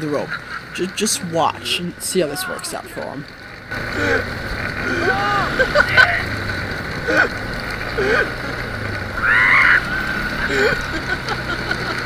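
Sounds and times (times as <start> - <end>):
engine running low hum: 0.0 - 12.0.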